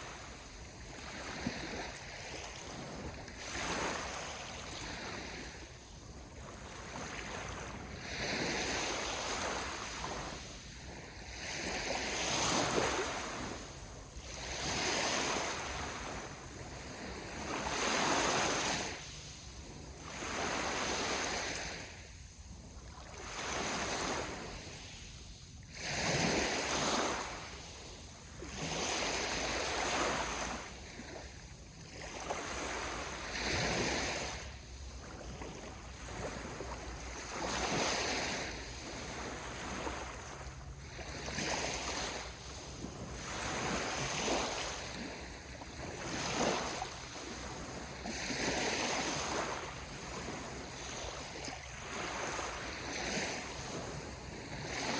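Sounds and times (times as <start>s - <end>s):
sea waves washing in: 0.0s - 54.9s.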